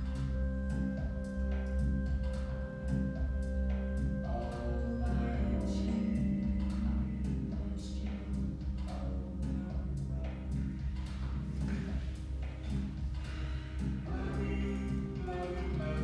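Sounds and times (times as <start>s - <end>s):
held chords over a beat: 0.0s - 16.0s.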